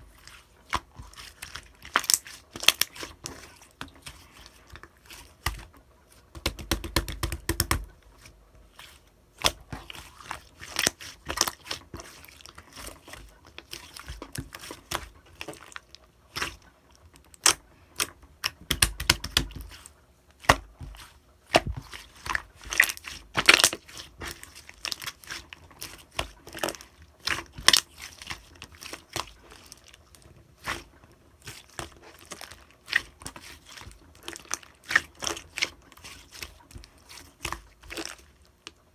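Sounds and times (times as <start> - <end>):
deep slime squishes: 0.0 - 38.9.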